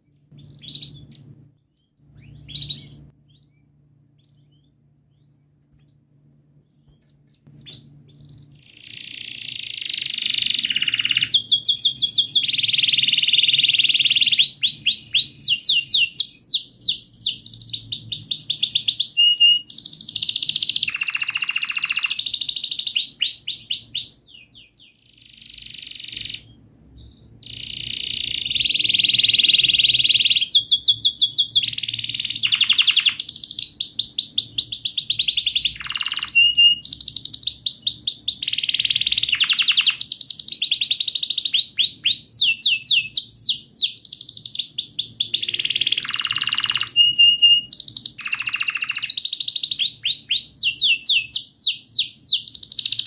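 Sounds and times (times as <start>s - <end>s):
canary singing: 0.0s - 53.0s.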